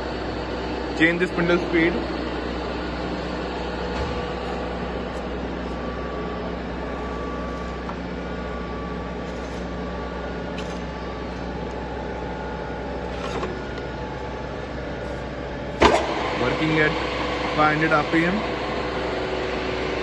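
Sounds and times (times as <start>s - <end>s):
milling machine motor hum: 0.0s - 20.0s.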